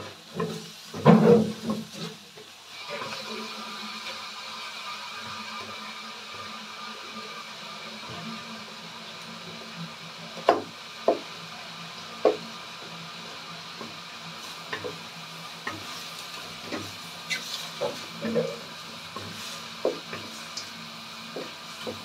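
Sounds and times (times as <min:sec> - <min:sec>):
wooden spatula stirring in a wok: 0:00.0 - 0:11.4, 0:12.2 - 0:22.0
low frying sizzle: 0:00.0 - 0:22.0.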